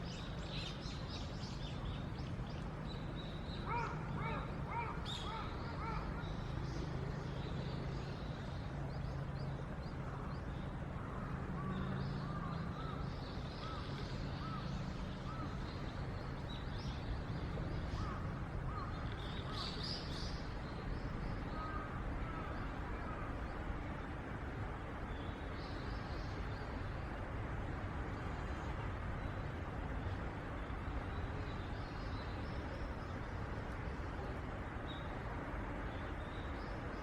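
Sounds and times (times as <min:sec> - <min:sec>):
low outdoor rumble: 0:00.0 - 0:37.0.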